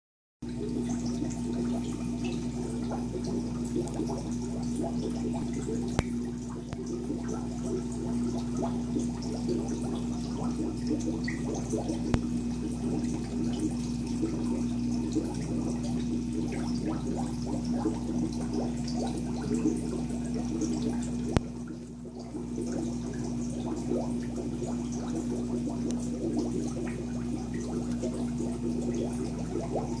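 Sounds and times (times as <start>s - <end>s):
sponge filter bubbling: 0.4s - 30.0s
air pump electric hum: 0.5s - 30.0s.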